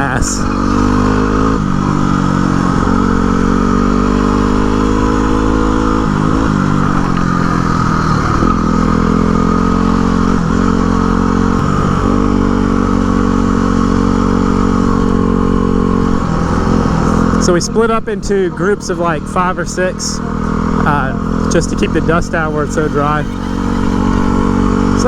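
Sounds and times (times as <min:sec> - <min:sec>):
motorcycle engine cruising: 0:00.0 - 0:25.0.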